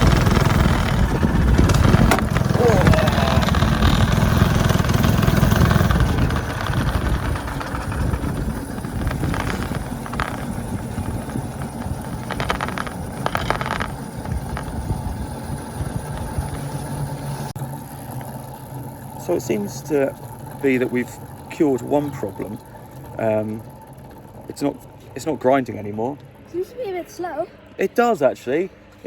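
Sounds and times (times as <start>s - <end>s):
go-kart engine: 0.0s - 29.0s.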